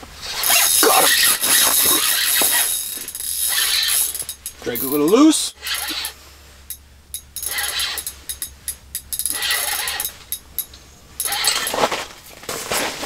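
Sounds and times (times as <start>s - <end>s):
fishing reel clicking and rasping: 0.3s - 11.8s.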